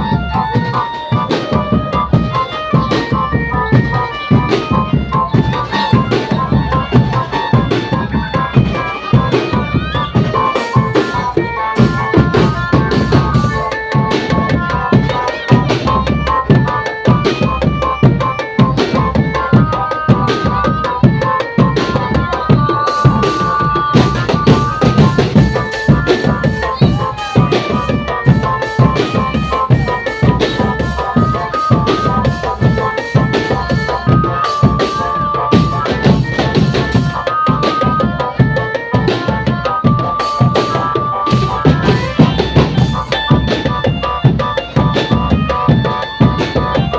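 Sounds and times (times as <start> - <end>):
marching drum band playing: 0.0 - 46.9
melody of held high notes: 0.0 - 46.9.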